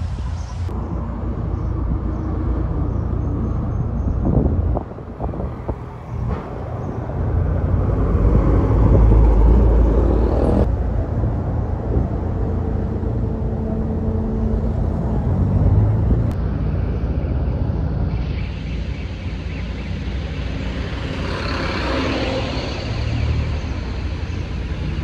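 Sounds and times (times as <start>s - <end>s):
bus engine rumble passing: 0.0s - 25.0s.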